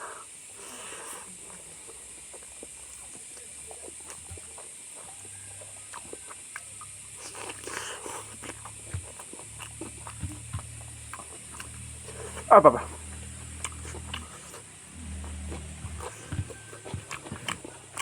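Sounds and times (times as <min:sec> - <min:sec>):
background hiss: 0:00.0 - 0:18.0
person chewing and eating: 0:00.0 - 0:18.0.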